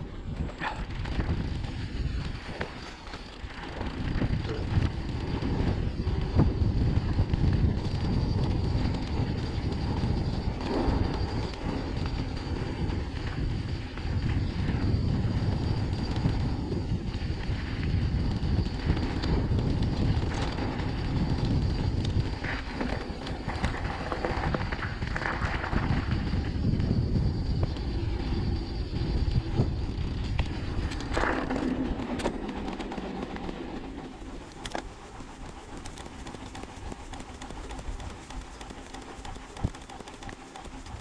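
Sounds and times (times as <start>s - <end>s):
bike tyres rumbling on gravel: 0.0s - 34.0s
bike clicking and rattling: 0.0s - 41.0s
wind on microphone: 0.0s - 41.0s.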